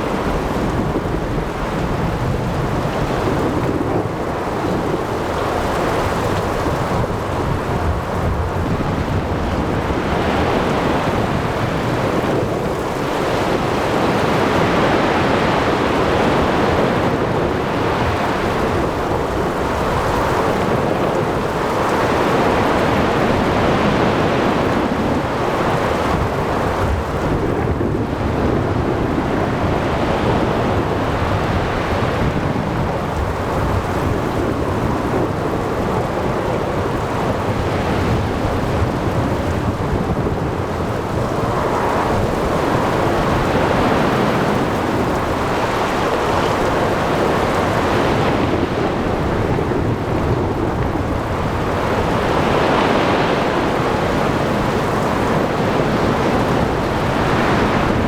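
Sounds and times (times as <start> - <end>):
rain: 0.0 - 58.0
surf: 0.0 - 58.0
wind: 0.0 - 58.0.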